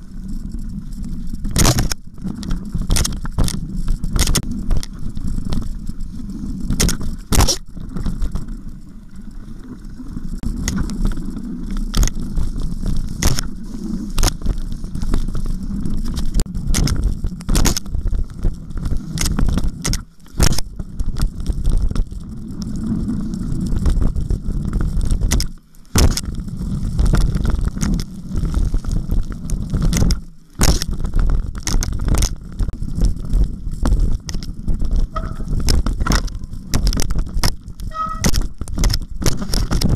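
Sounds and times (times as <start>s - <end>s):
bike rattling over rocks: 0.0s - 39.9s
bike tyres rumbling: 0.0s - 39.9s.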